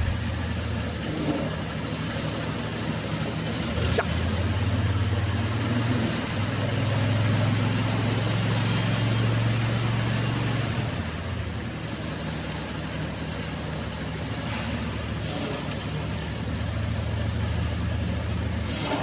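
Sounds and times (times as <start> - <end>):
loader engine droning: 0.0 - 19.0.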